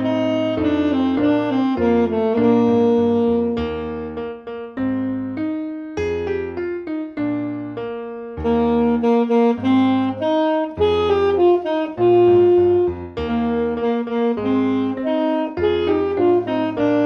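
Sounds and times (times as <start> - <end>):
alto saxophone melody: 0.0 - 17.0
low bass notes: 0.0 - 17.0
piano accompaniment: 0.0 - 17.0.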